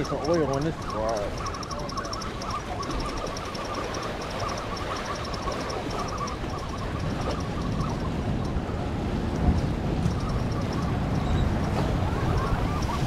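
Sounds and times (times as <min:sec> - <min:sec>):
fishing reel squeaking: 0:00.0 - 0:08.7, 0:09.3 - 0:13.0.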